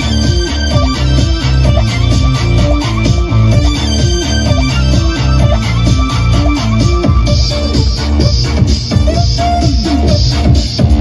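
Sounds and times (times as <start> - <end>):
dance music with heavy bass: 0.0 - 11.0.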